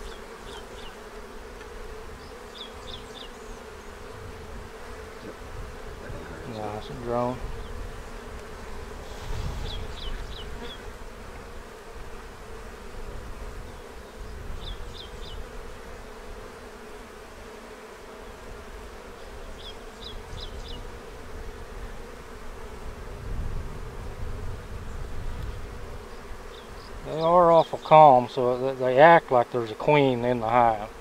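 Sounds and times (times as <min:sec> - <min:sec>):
honeybees humming: 0:00.0 - 0:31.0.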